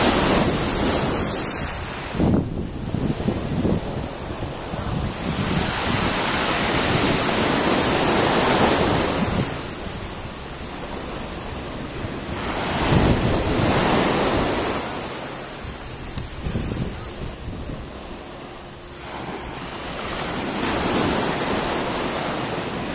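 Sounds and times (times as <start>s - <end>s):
small waves breaking on a beach: 0.0s - 22.9s
wind rumbling on microphone: 0.0s - 22.9s.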